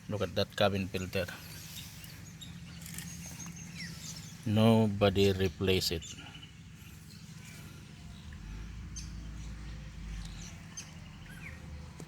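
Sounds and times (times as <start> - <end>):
low steady hum: 0.0 - 12.0
faint bird chirps: 1.3 - 12.0.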